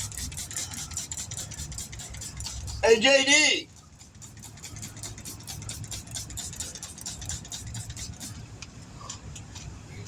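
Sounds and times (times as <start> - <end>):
rapid high ticking: 0.0 - 8.4.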